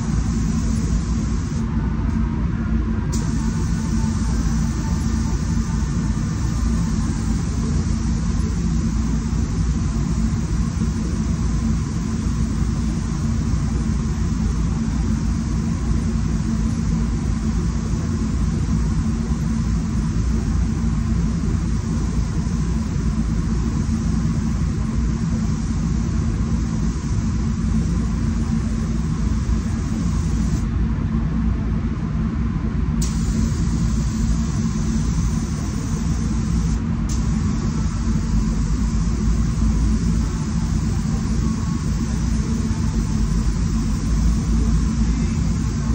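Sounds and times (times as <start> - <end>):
spray gun hissing: 0.0 - 1.6, 3.2 - 18.8, 21.1 - 30.6, 33.0 - 45.9
ventilation fans rumbling: 0.0 - 45.9.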